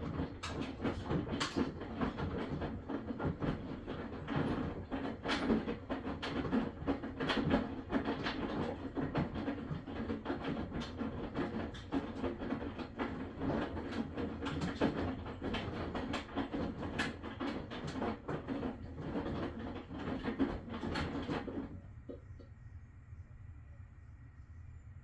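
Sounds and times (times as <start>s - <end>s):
washing machine running: 0.0s - 25.0s.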